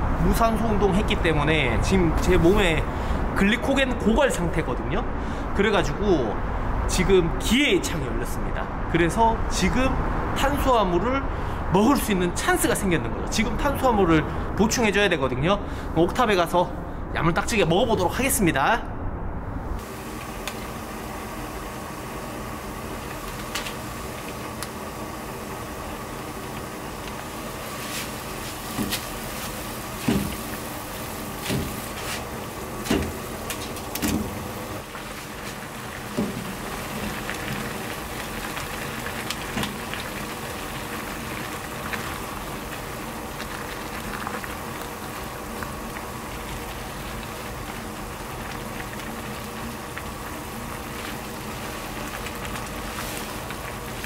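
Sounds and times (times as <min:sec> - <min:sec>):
cooking hiss and hum: 0:00.0 - 0:18.5, 0:19.6 - 0:54.0.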